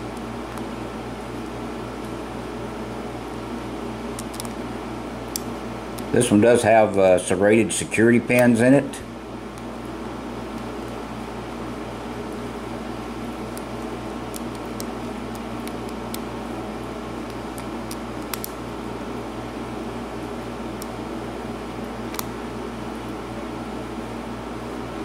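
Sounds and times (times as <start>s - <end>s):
room noise hum: 0.0s - 25.0s.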